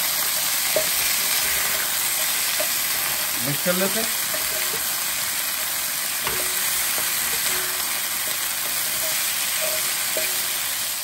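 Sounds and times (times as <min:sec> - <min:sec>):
prawns sizzling in oil: 0:00.0 - 0:11.0
spatula stirring in pan: 0:00.0 - 0:11.0.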